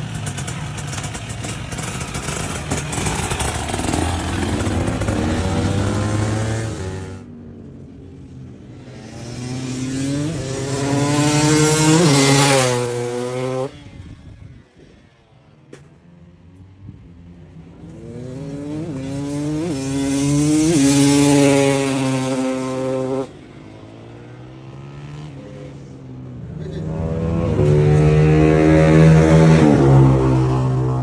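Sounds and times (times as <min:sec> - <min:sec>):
motorcycle engine revving past: 0:00.0 - 0:07.3, 0:08.7 - 0:15.2, 0:17.2 - 0:31.0.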